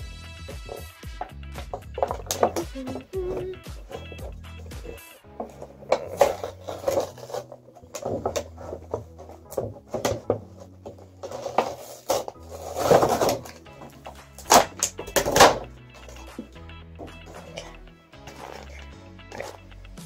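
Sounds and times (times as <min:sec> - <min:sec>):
packaging rustling and scraping: 0:01.6 - 0:19.7.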